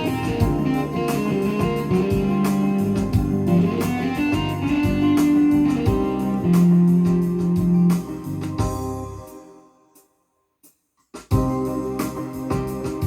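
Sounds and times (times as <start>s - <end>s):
drum and bass accompaniment: 0.0s - 9.4s, 11.2s - 13.0s
keyboard guitar melody: 0.0s - 9.7s, 11.4s - 13.0s.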